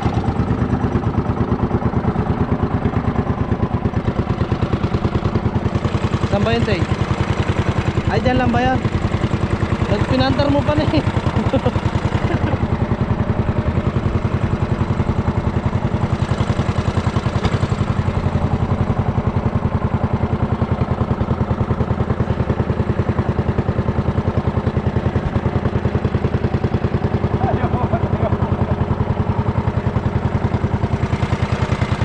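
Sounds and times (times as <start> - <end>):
small engine chugging: 0.0 - 32.0.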